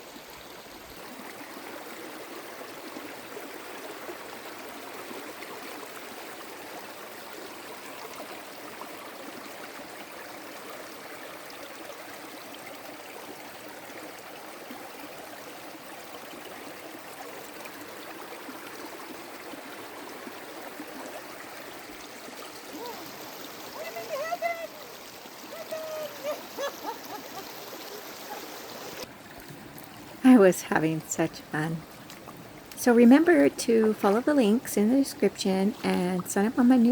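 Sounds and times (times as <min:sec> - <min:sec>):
creek water rushing over rocks: 0:00.0 - 0:36.9.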